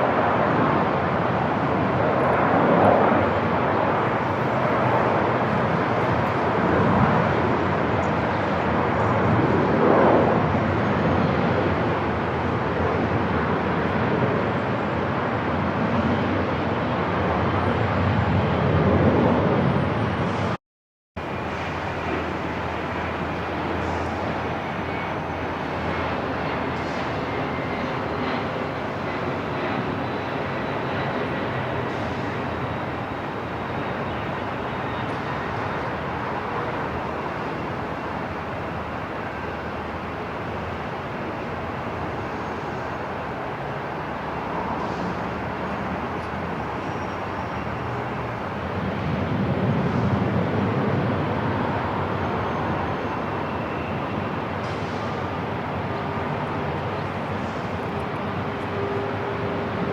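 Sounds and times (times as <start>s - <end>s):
dense wash of noise: 0.0s - 20.6s, 21.2s - 59.9s.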